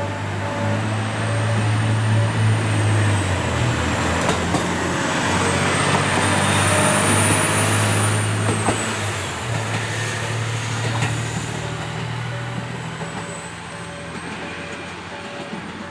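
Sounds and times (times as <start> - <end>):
train mechanical drone: 0.0 - 15.9.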